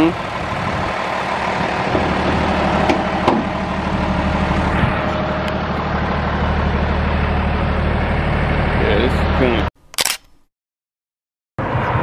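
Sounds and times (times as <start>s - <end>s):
diesel engine idling: 0.0s - 9.7s.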